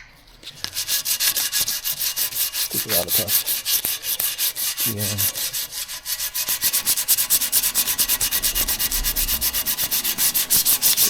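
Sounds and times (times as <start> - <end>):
orbital sander on metal: 0.4 - 11.0.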